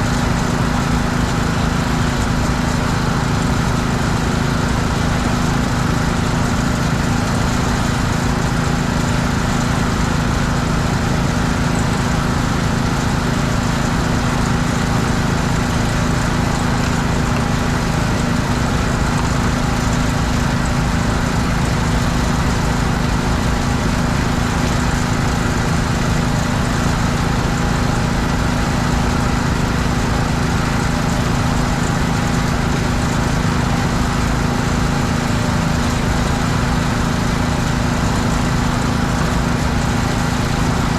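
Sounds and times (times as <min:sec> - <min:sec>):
pressure washer petrol engine running: 0:00.0 - 0:40.9.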